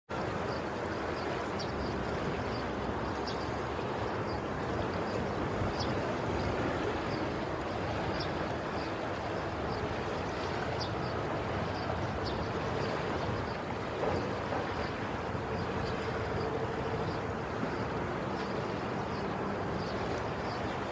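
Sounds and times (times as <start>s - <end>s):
ocean waves washing on shore: 0.1s - 20.9s.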